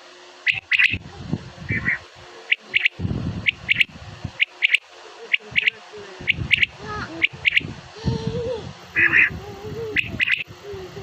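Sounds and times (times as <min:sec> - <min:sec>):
francolin calling: 0:00.0 - 0:07.7, 0:08.9 - 0:10.5.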